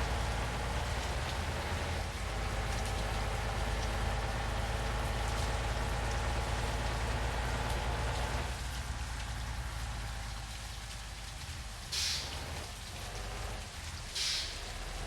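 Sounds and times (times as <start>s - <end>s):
low engine rumble: 0.0s - 15.0s
rain-like hiss: 0.0s - 15.0s.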